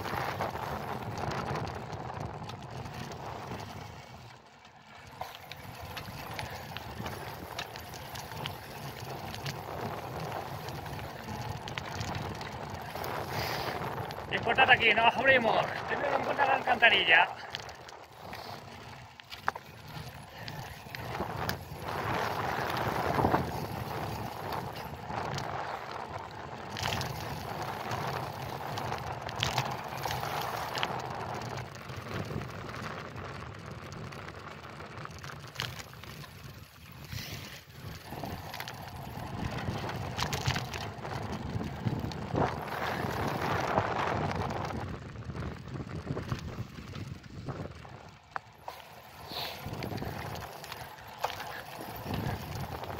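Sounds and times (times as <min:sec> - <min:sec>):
wind rushing over microphone: 0:00.0 - 0:04.2, 0:05.5 - 0:35.3, 0:35.9 - 0:52.9
bicycle tyres rolling on pavement: 0:00.0 - 0:52.9
small clicks and rattles: 0:00.0 - 0:52.9.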